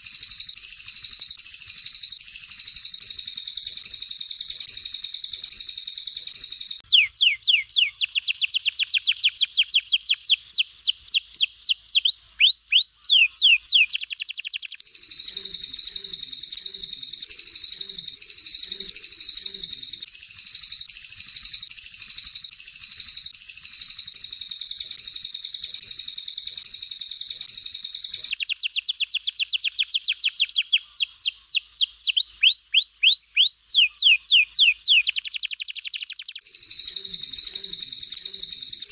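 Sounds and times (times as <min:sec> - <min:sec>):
high buzzing bird trill: 0:00.0 - 0:38.9.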